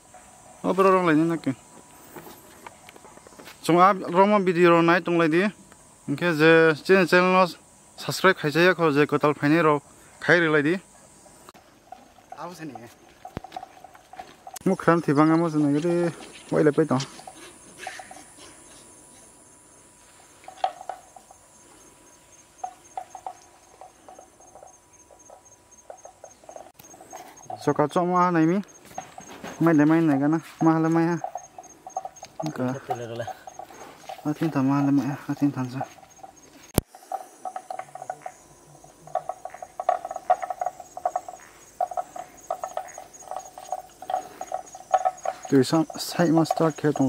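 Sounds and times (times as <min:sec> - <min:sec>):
frogs croaking: 0:00.0 - 0:47.0
insect chirping: 0:00.0 - 0:47.0.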